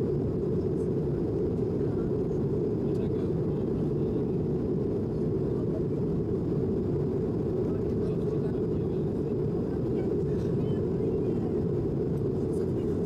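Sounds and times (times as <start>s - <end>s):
airliner cabin noise: 0.0s - 13.0s.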